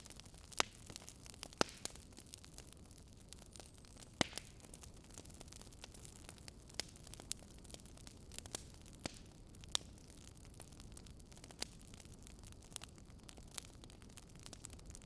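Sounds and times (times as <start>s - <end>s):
wood fire pops and snaps: 0.0s - 15.0s.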